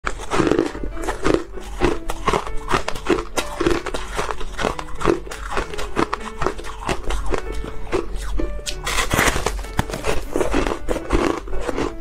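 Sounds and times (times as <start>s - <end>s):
background music: 0.0s - 12.0s
crunching ice: 0.0s - 12.0s.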